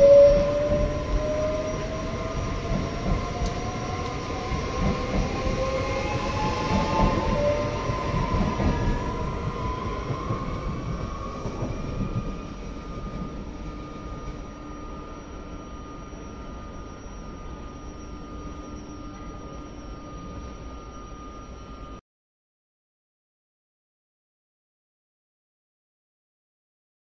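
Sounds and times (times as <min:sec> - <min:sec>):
train traction motors whining: 0:00.0 - 0:21.9.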